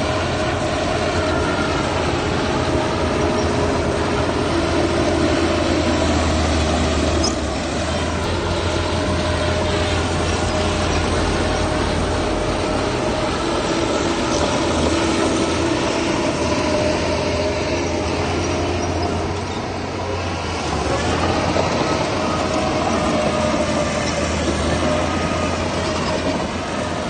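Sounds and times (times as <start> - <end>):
diesel machinery engine drone: 0.0 - 27.0
metallic whine: 0.0 - 27.0.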